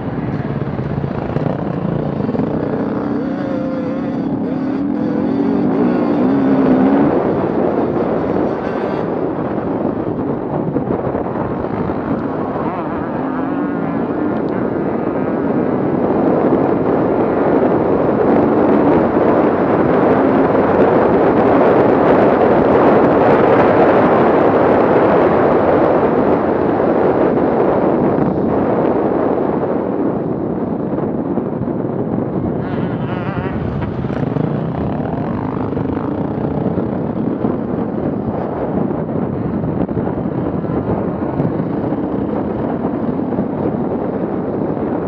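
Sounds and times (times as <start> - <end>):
off-road vehicle engine running hard: 0.0 - 45.0.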